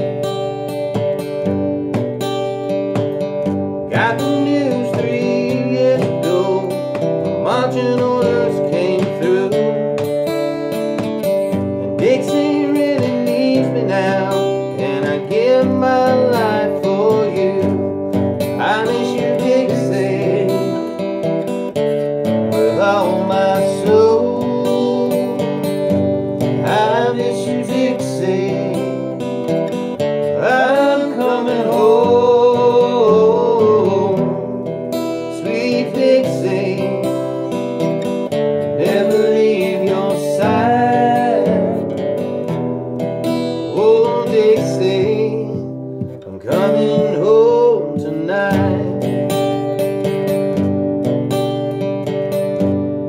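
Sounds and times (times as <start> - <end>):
acoustic guitars strummed and picked: 0.0 - 53.0.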